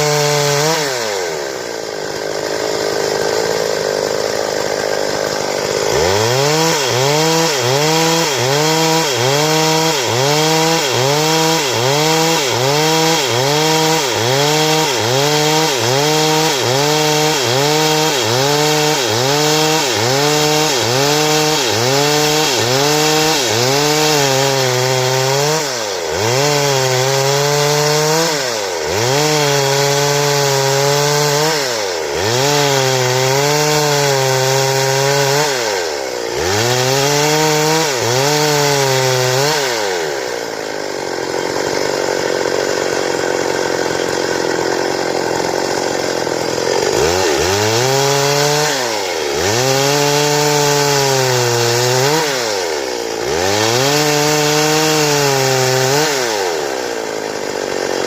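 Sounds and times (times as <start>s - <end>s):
chainsaw cutting boards: 0.0s - 58.0s.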